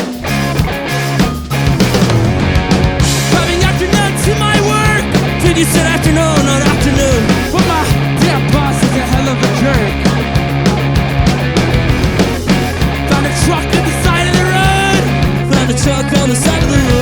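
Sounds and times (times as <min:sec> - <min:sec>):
bass guitar: 0:00.0 - 0:17.0
distorted electric guitar: 0:00.0 - 0:17.0
drums: 0:00.0 - 0:17.0.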